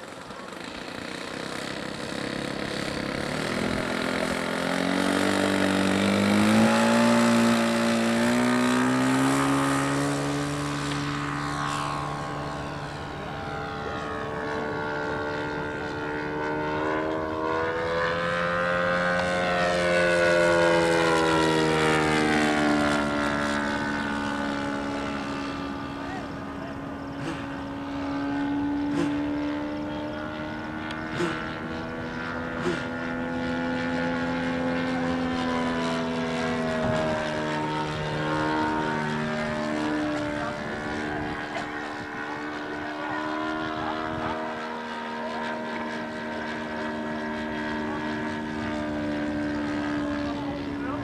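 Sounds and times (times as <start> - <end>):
model airplane motor and propeller: 0.0 - 51.0.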